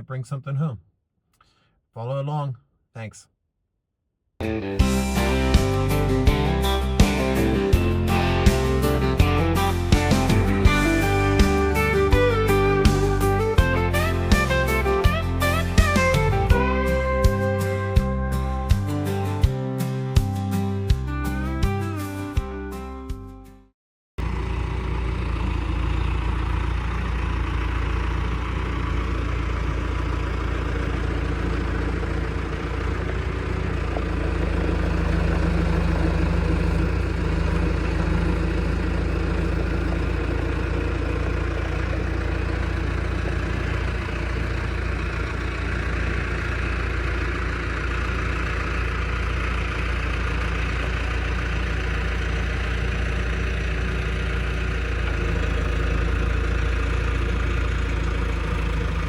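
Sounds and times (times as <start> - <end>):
truck engine and road drone: 4.4 - 22.5, 24.2 - 59.0.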